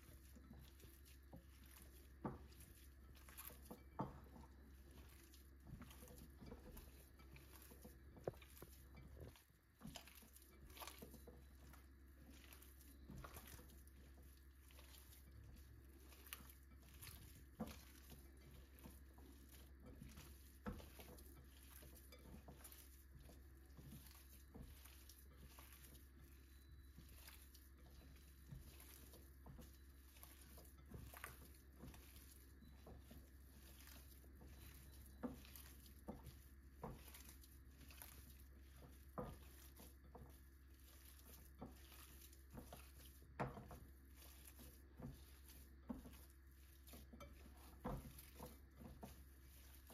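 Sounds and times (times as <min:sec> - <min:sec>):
squishing of raw meat: 0:00.0 - 0:49.9.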